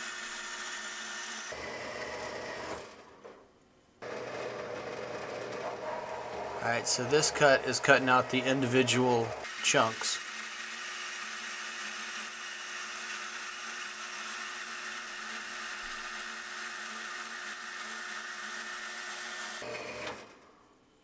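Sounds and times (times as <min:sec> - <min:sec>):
metal-cutting bandsaw running: 0:00.0 - 0:03.0, 0:04.0 - 0:20.3.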